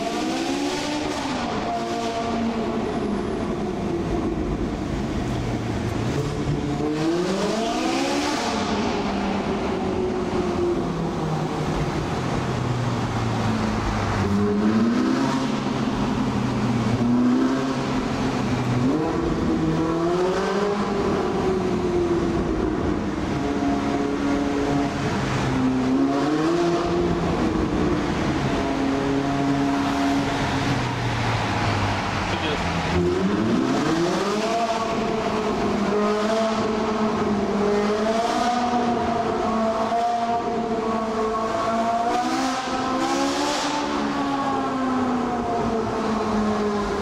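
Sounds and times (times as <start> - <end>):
sports car engine accelerating: 0.0 - 47.0.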